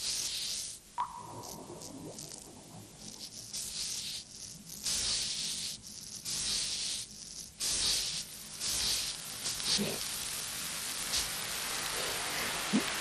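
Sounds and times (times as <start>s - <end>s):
sand hissing and rustling: 0.0s - 0.8s, 3.0s - 13.0s.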